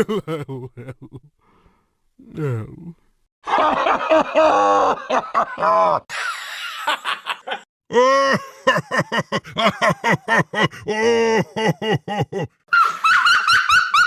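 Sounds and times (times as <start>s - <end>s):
cartoon character laughing: 0.0s - 1.3s, 3.6s - 14.0s.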